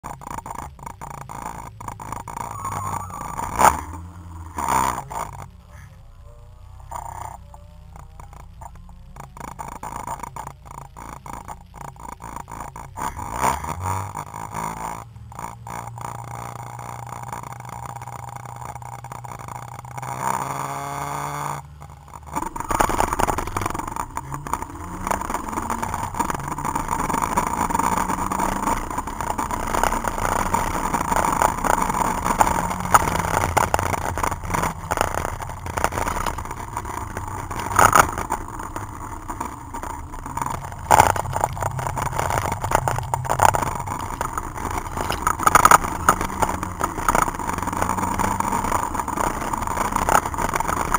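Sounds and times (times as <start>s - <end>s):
car engine revving and accelerating: 0.0s - 50.9s.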